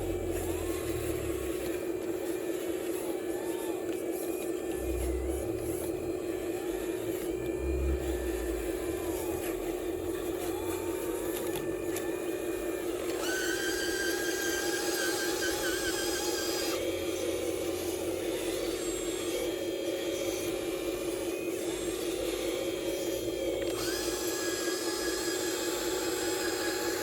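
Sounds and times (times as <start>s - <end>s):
high-pitched motor whine: 0.0s - 27.0s
small electric motors whining: 0.0s - 27.0s.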